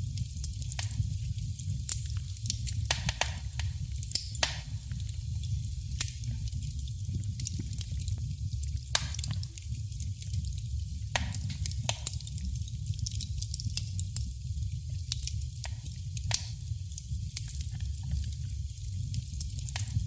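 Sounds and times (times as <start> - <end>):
low rumble of fire: 0.0 - 20.0
wood fire crackling and popping: 0.0 - 20.0.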